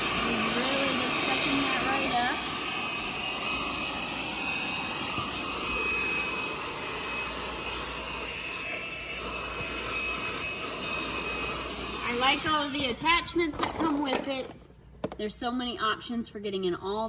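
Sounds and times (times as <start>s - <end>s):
handheld vacuum running: 0.0s - 15.2s.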